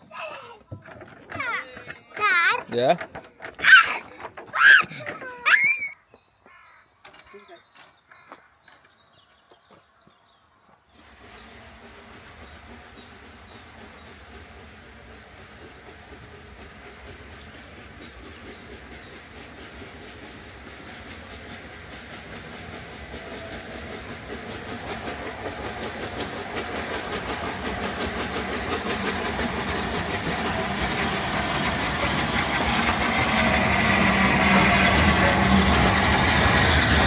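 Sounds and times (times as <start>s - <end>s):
steam locomotive approaching: 0.0s - 37.0s.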